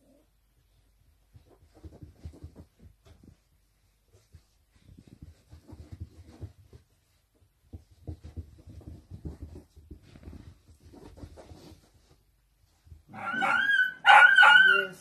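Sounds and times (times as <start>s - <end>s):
puppies scuffling on carpet: 0.5s - 13.8s.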